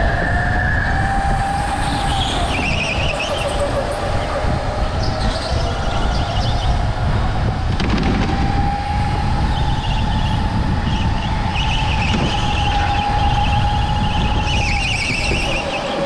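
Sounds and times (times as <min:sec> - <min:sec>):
go-kart engine whine: 0:00.0 - 0:16.0
road and wind rumble: 0:00.0 - 0:16.0.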